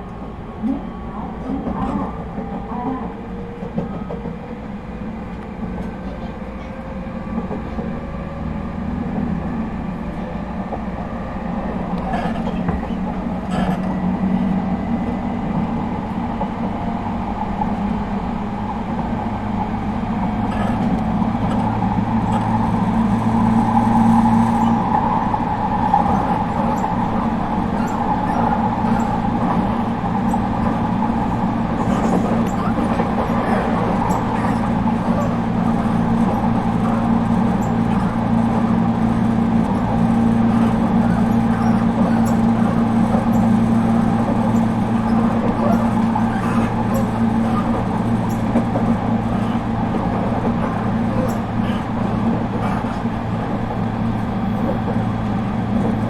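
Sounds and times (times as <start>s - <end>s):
electric train motor hum: 0.0s - 56.0s
train wheels rumbling on rails: 0.0s - 56.0s.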